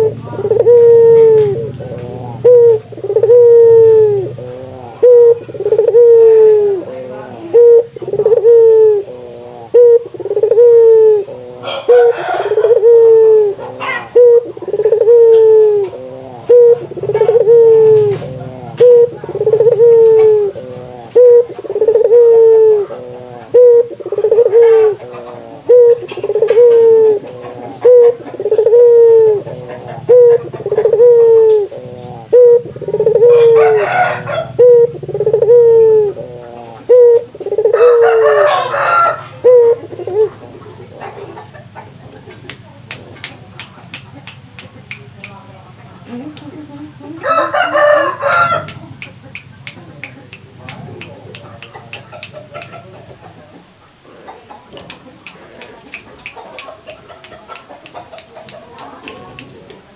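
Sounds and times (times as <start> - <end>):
dove cooing: 0.0 - 44.8, 45.7 - 59.9.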